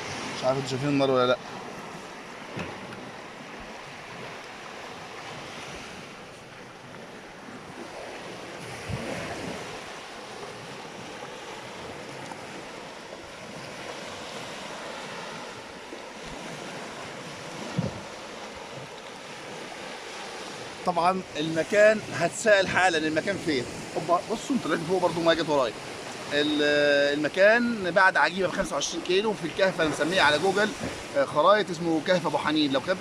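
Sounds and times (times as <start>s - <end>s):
sea waves washing on shore: 0.0s - 33.0s
wind buffeting microphone: 1.4s - 26.4s, 27.9s - 31.2s.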